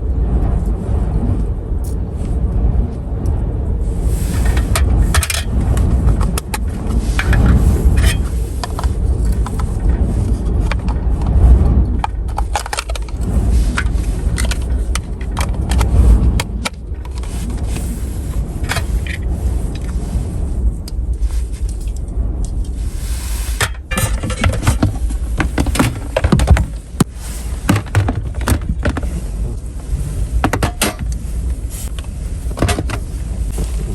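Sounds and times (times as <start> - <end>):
wind buffeting microphone: 0.0 - 33.9
clicks and scrapes: 4.0 - 33.9.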